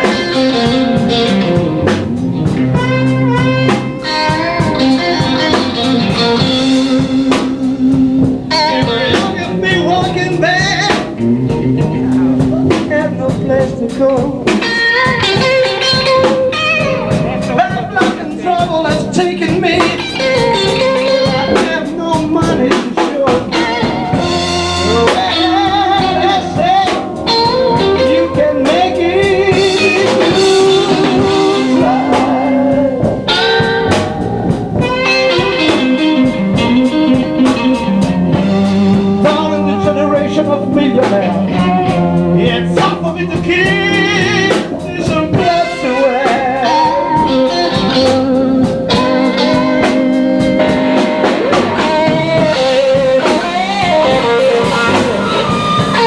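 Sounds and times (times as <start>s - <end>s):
blues band playing: 0.0s - 56.0s
electric guitar bending notes: 0.0s - 56.0s.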